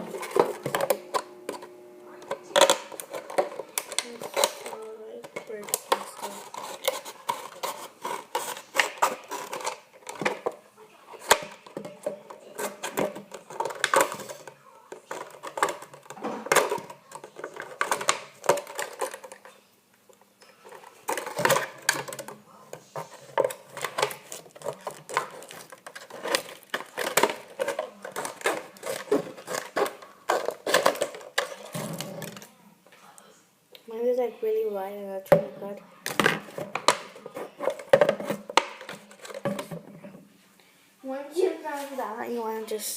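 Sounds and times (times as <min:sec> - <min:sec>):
plastic bottle crackling: 0:00.0 - 0:10.6, 0:11.2 - 0:19.6, 0:20.6 - 0:32.5, 0:36.0 - 0:40.1.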